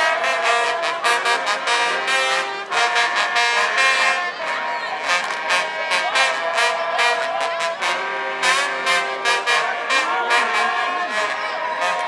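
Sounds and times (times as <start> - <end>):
trombones playing fanfare: 0.0 - 12.0.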